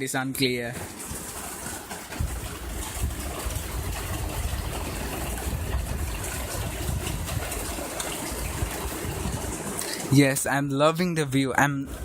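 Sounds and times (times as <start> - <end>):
steady rain falling: 0.8 - 10.5.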